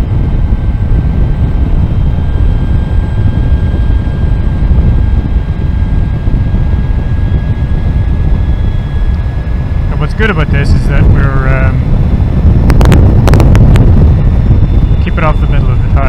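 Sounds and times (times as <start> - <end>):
electric motor high whine: 0.0 - 16.0
wind rumble on microphone: 0.0 - 16.0.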